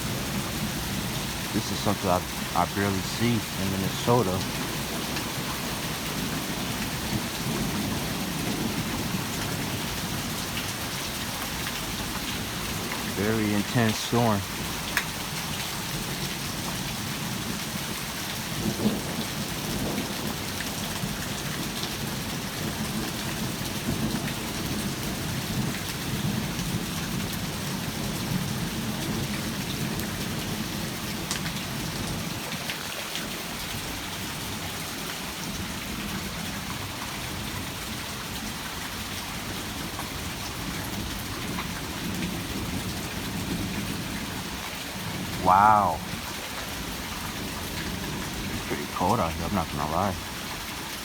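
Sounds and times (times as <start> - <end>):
heavy rain pouring: 0.0 - 51.0.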